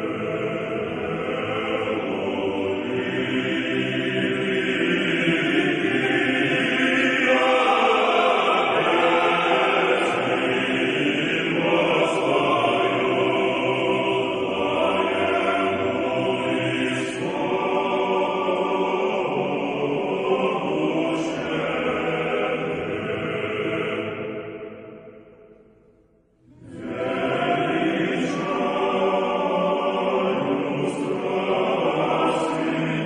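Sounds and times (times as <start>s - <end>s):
choir singing chant: 0.0s - 25.6s, 26.4s - 33.0s.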